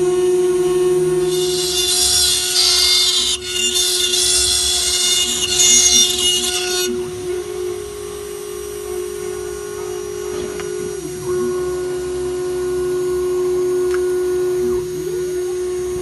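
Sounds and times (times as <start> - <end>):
power tool motor whine: 0.0 - 16.0
hissing wood cutting noise: 1.1 - 16.0.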